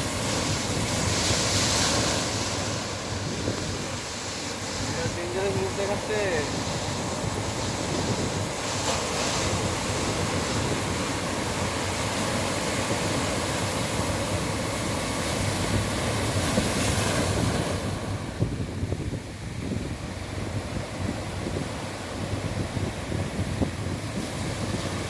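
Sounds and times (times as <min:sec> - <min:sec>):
waves washing onto beach: 0:00.0 - 0:25.0
wind rumbling on microphone: 0:00.0 - 0:25.0.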